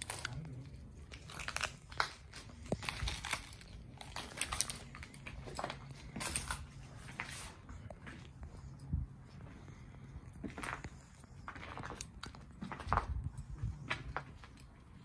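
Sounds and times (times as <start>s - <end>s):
footsteps crunching over debris: 1.5s - 14.8s.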